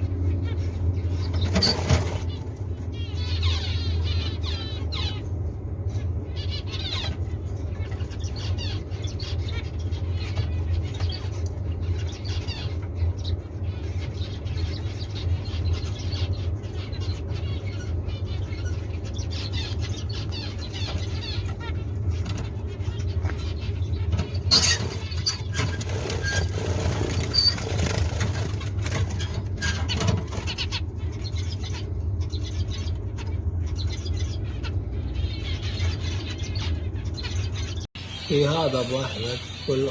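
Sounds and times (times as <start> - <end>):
cage birds chirping and calling: 0.0 - 39.9
steady low hum: 0.0 - 39.9.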